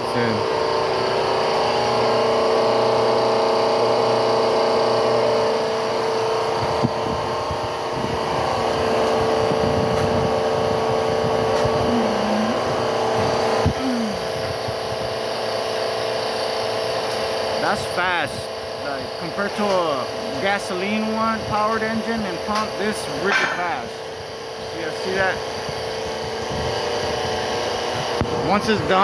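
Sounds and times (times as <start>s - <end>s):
hydraulic pump whining: 0.0s - 29.0s.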